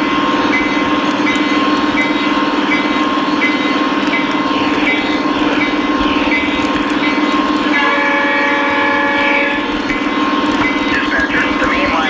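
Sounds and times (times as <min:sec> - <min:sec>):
model train motor hum and wheels: 0:00.0 - 0:12.0.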